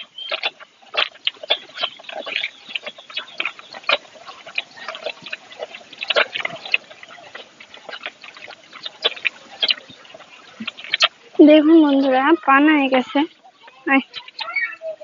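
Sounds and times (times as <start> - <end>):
calf suckling wet slurping: 0.0 - 15.0.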